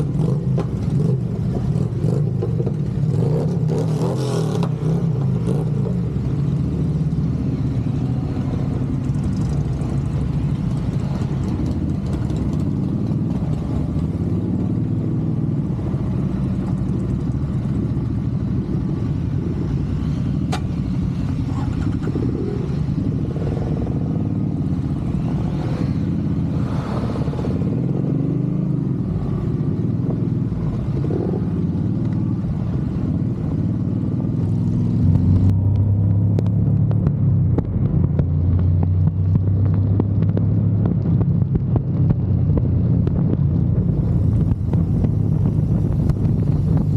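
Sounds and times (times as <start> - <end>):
motorcycle engine hum: 0.0 - 46.9
road and wind noise: 0.0 - 46.9.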